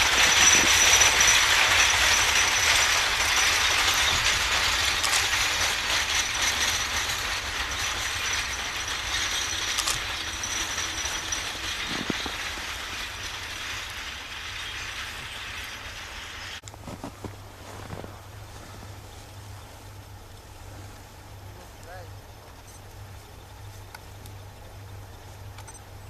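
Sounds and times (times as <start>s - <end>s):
train wagons rattling past: 0.0s - 26.0s.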